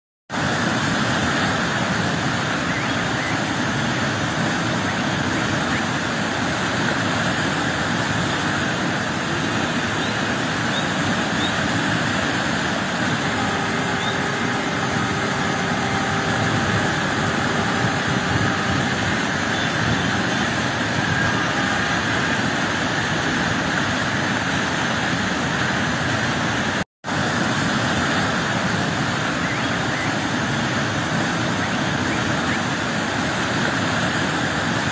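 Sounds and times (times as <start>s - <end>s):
waterfall rushing over boulders: 0.3s - 34.9s.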